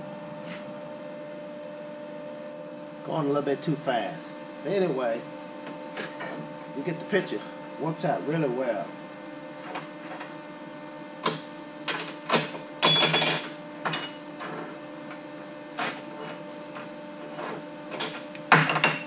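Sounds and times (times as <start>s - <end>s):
welder cooling fan hum: 0.0s - 19.0s.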